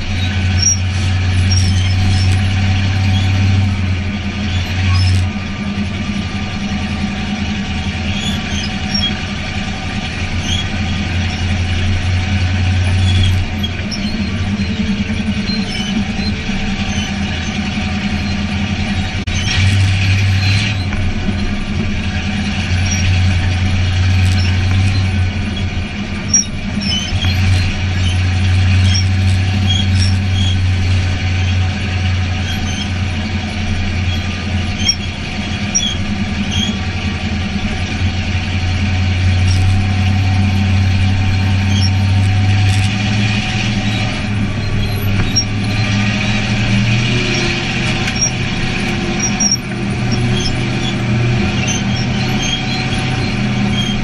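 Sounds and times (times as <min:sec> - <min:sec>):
race car engine drone: 0:00.0 - 0:54.0.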